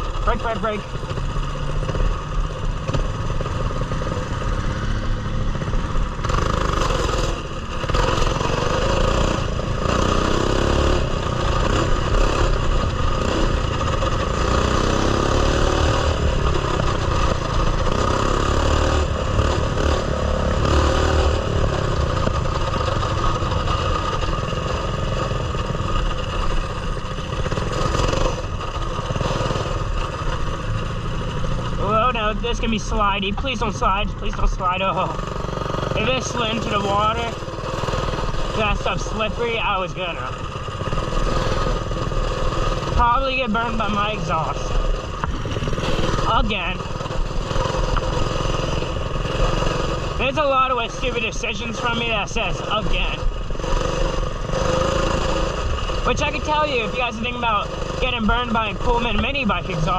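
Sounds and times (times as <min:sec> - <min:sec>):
mini bike engine running: 0:00.0 - 0:59.9
frame clattering over rough trail: 0:05.5 - 0:59.9.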